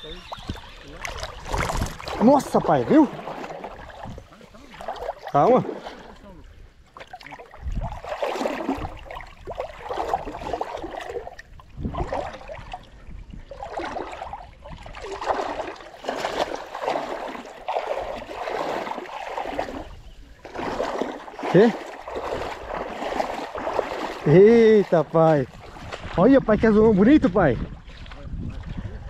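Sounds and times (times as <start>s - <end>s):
water sloshing against boat: 0.0s - 29.0s.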